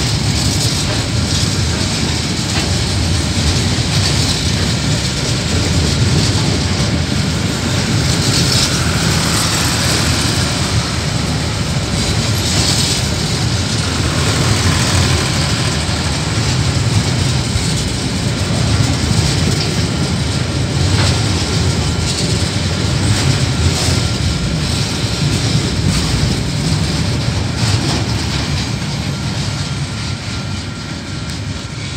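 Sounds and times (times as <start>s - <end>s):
freight train wheels rumbling: 0.0s - 31.9s.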